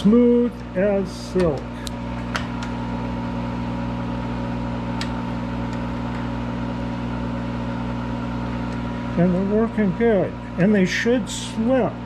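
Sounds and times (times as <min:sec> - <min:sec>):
lathe humming: 0:00.0 - 0:12.0.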